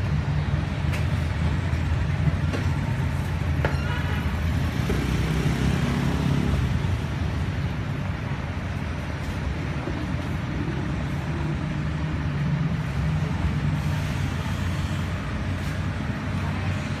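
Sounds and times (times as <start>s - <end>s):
road traffic noise: 0.0s - 17.0s
vehicle engine rumble: 0.0s - 17.0s.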